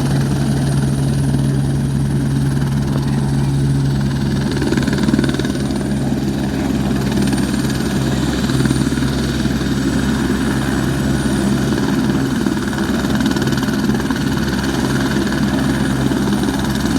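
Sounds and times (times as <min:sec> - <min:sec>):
helicopter engine and rotor drone: 0:00.0 - 0:16.9.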